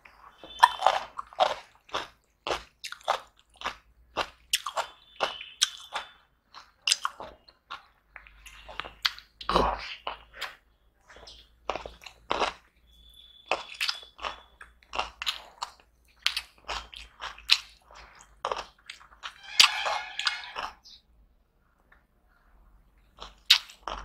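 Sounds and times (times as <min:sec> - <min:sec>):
person chewing crunchy food: 0:00.0 - 0:21.0, 0:23.0 - 0:24.0.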